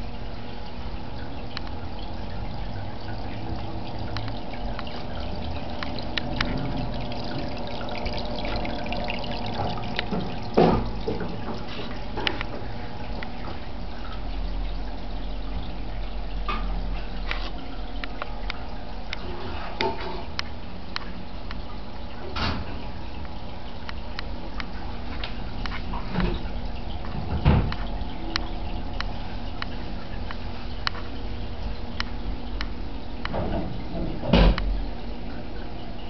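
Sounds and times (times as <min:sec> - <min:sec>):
aquarium filter water trickling: 0:00.0 - 0:36.0
small water drips: 0:00.0 - 0:36.0.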